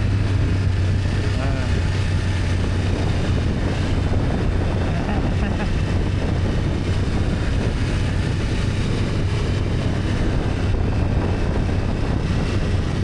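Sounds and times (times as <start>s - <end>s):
motorcycle engine humming: 0.0s - 13.0s
wind rushing over microphone: 0.0s - 13.0s.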